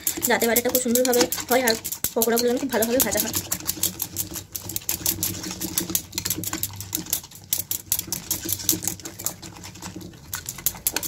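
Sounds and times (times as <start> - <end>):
fork clicking against bowl: 0.0 - 9.5.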